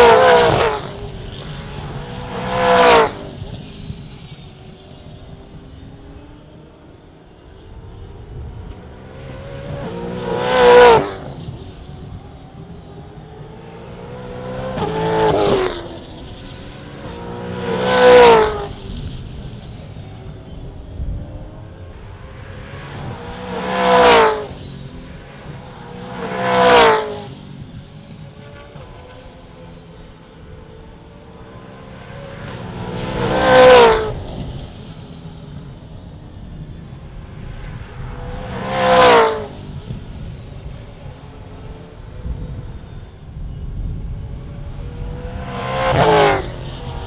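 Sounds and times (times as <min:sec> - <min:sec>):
race cars passing at speed: 0:00.0 - 0:47.0.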